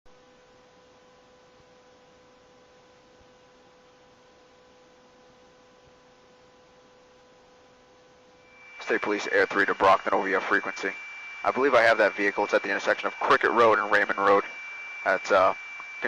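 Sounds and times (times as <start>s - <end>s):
faint steady hiss: 0.1s - 16.0s
low steady hum: 0.1s - 16.0s.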